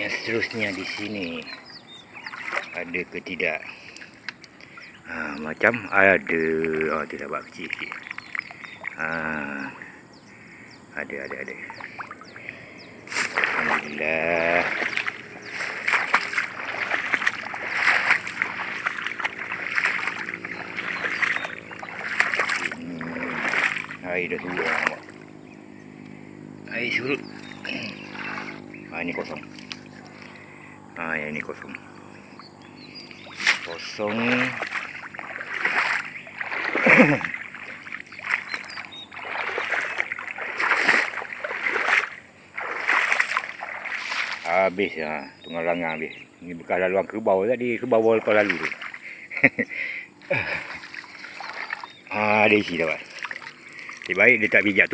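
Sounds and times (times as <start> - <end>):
footsteps wading through water: 0.0 - 45.5, 48.0 - 54.9.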